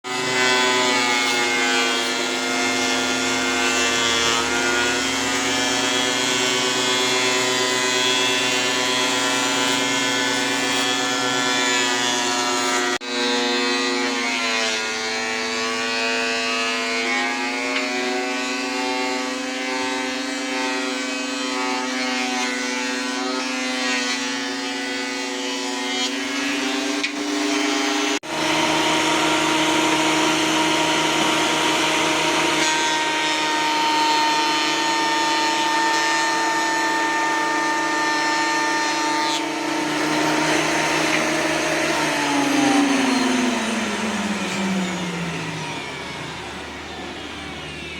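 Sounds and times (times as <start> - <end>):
thickness planer motor whine: 0.1 - 47.9.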